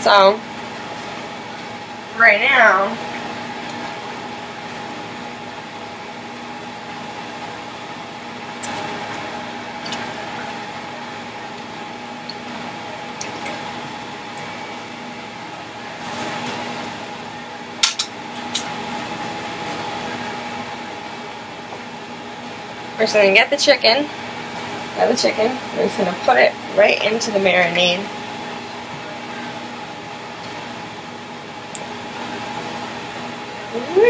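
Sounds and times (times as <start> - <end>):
kitchen fan humming: 0.0 - 34.0.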